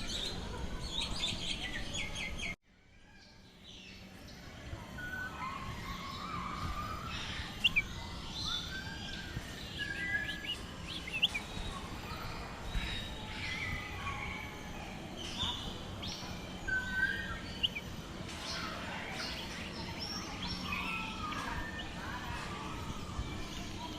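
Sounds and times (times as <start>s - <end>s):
birds chirping and whistling: 0.0s - 23.9s
low background hum: 0.0s - 23.9s.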